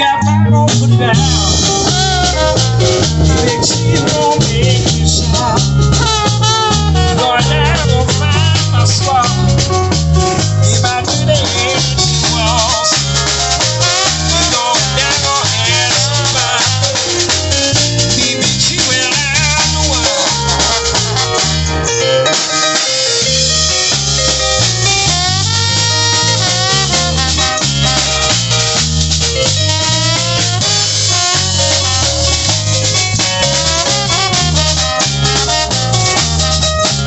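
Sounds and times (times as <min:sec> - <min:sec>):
drum kit: 0:00.0 - 0:37.0
keyboard: 0:00.0 - 0:37.0
pulsing bass line: 0:00.0 - 0:37.0
trombone: 0:00.0 - 0:37.0.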